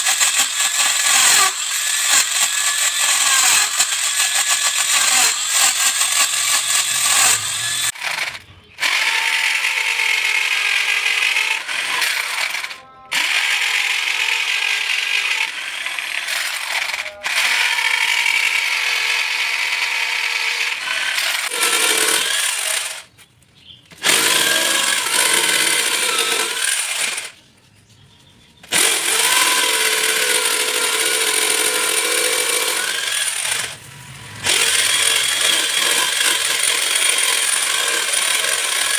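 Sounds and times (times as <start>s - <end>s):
electric drill boring into wood: 0.0s - 23.1s, 24.0s - 27.4s, 28.6s - 38.9s.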